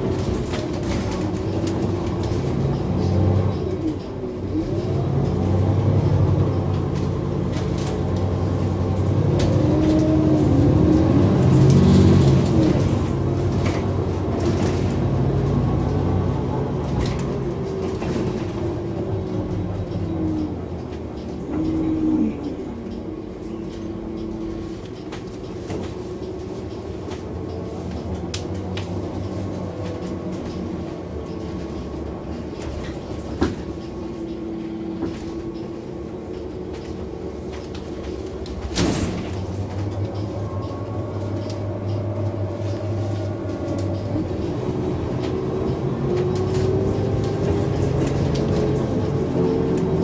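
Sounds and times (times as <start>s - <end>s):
bus diesel engine idling: 0.0s - 50.0s.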